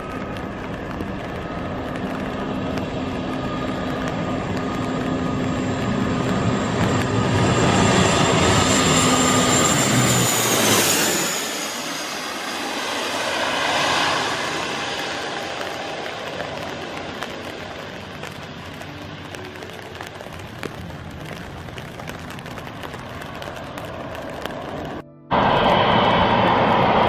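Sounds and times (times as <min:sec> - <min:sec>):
turboprop airliner passing overhead: 0:00.0 - 0:27.0.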